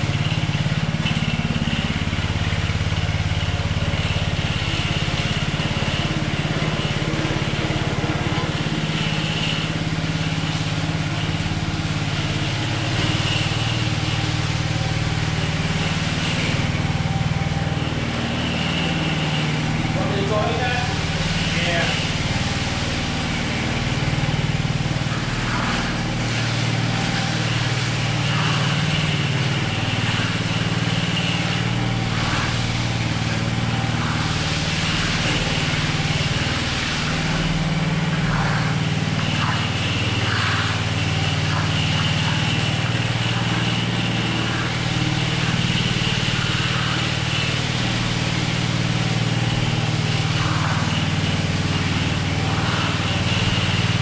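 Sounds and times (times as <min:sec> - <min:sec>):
power trowel engine running: 0:00.0 - 0:54.0.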